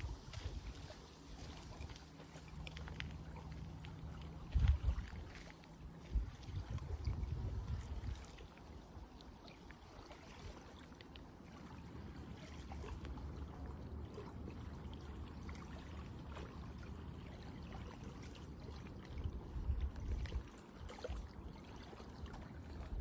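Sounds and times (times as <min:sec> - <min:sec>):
low steady rumble: 0:00.0 - 0:23.0
water trickling and lapping: 0:00.0 - 0:23.0.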